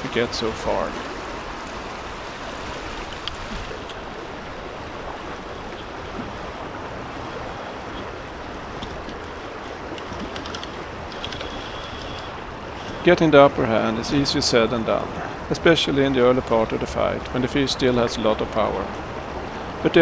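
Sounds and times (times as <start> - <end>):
river current rushing past rocks: 0.0 - 20.0.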